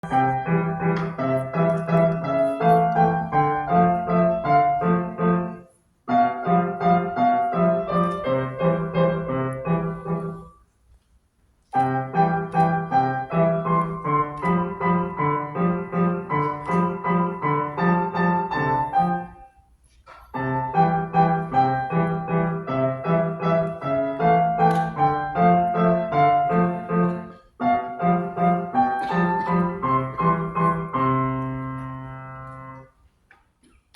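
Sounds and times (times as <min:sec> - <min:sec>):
lively piano piece: 0:00.0 - 0:10.6, 0:11.7 - 0:19.6, 0:20.3 - 0:33.0.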